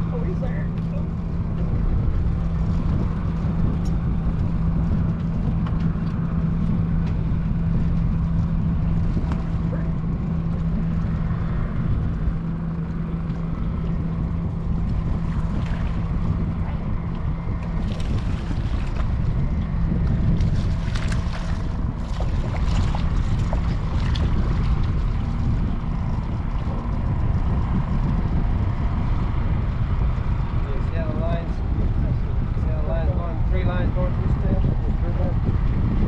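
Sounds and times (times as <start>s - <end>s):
boat motor running: 0.0s - 36.0s
steady hum: 0.0s - 36.0s
wind on microphone: 0.0s - 36.0s.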